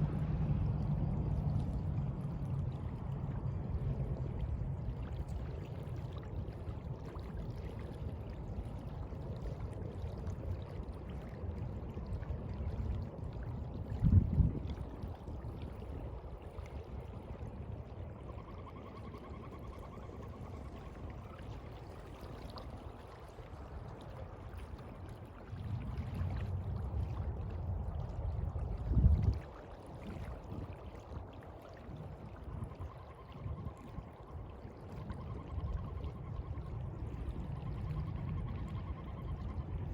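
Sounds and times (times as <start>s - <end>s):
sea water sloshing: 0.0s - 39.9s.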